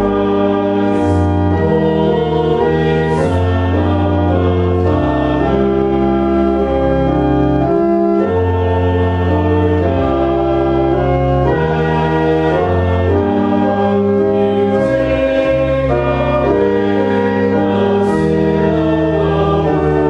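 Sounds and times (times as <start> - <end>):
church organ chords: 0.0 - 20.0.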